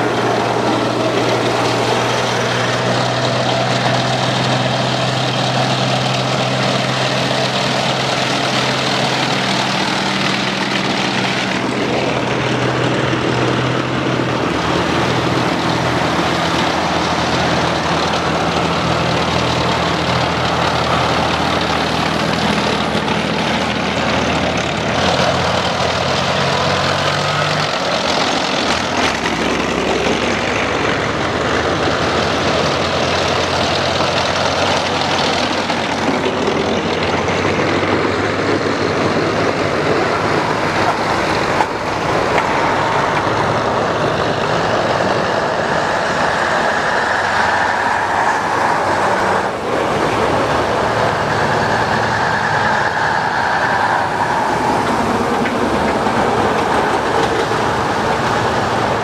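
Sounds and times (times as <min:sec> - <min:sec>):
military vehicle engines passing: 0:00.0 - 0:59.0.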